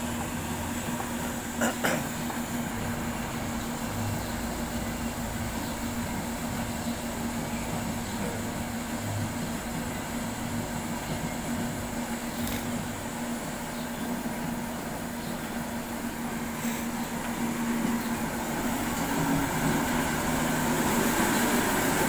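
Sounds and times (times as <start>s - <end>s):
flour mill motor droning: 0.0s - 22.0s.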